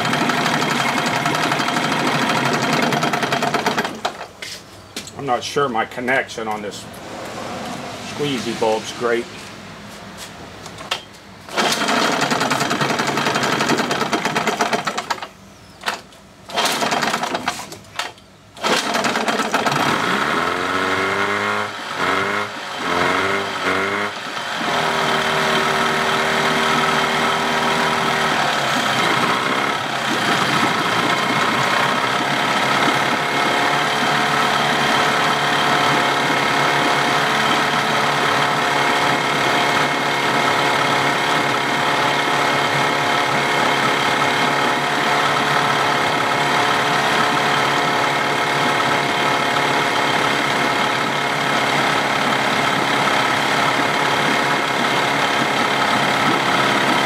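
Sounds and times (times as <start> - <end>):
outboard motor running and revving: 0.0 - 4.0, 11.5 - 15.0, 18.6 - 57.0.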